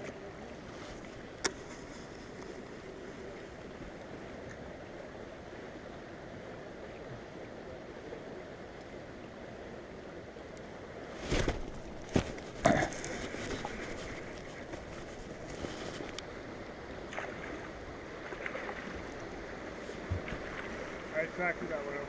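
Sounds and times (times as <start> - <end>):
wind and water wash: 0.0 - 22.0.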